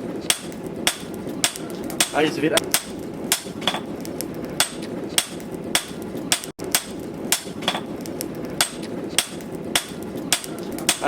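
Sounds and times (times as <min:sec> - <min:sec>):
hammer striking steel on anvil: 0:00.2 - 0:03.9, 0:04.6 - 0:08.0, 0:08.6 - 0:11.0.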